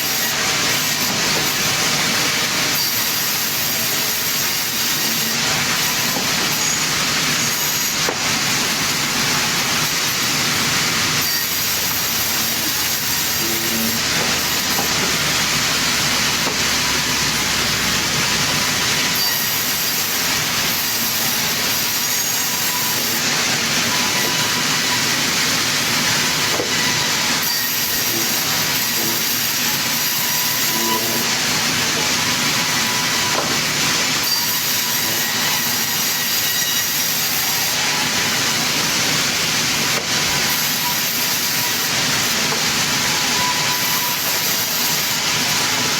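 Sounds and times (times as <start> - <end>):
circular saw cutting log: 0.0 - 45.9.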